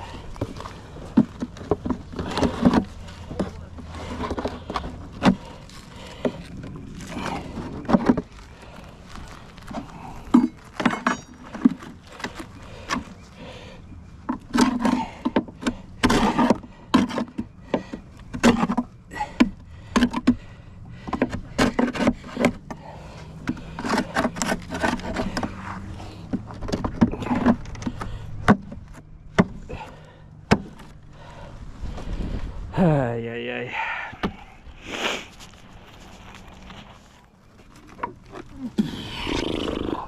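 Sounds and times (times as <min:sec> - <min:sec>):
wood scraping: 0:00.0 - 0:32.6, 0:33.8 - 0:40.0.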